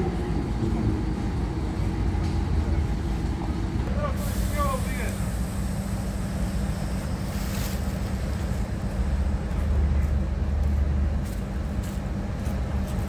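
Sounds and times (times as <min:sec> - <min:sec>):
diesel engine idling: 0:00.0 - 0:12.8.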